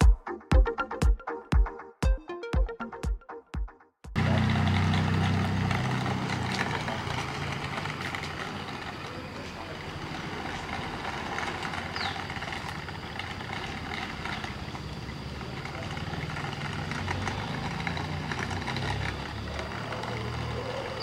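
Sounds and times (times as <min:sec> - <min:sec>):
low engine hum: 0:04.2 - 0:21.0
rough gritty noise: 0:04.2 - 0:21.0.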